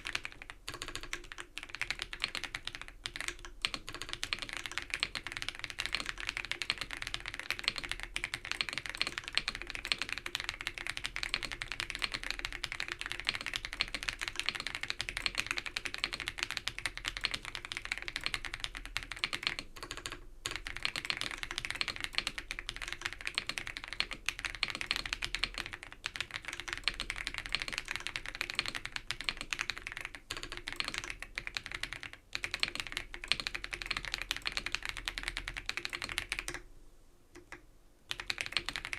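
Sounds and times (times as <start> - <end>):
fast typing on mechanical keyboard: 0.0 - 36.6, 37.4 - 38.9.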